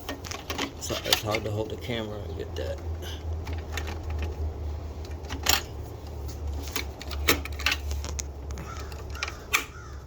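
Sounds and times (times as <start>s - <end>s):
clicks and knocks of saw parts: 0.0s - 1.5s, 2.7s - 9.8s.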